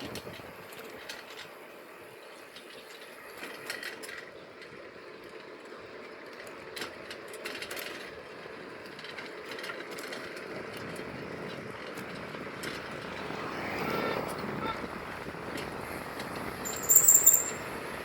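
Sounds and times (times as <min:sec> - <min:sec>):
bike clicks and rattles: 0:00.0 - 0:13.4, 0:15.4 - 0:18.0
bicycle rolling noise: 0:00.0 - 0:18.0.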